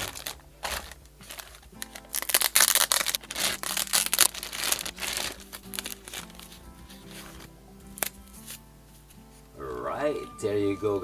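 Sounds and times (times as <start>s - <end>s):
packaging rustling and crinkling: 0.0s - 9.4s
background music: 0.0s - 11.0s.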